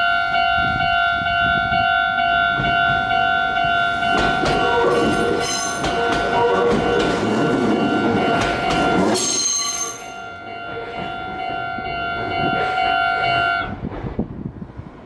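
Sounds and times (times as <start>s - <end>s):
level-crossing alarm ringing: 0.0s - 13.7s
train rumbling past: 0.0s - 15.0s.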